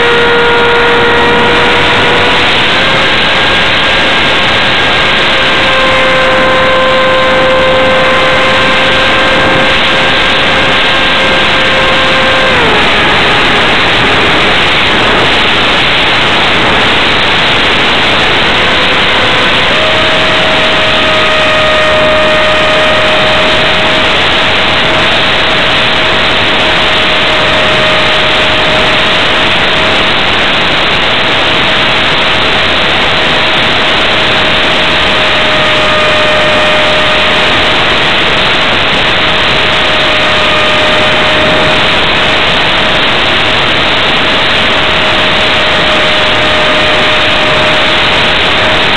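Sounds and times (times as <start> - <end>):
airflow rushing over microphone: 0.0 - 48.9
electric motor whine: 0.0 - 48.9.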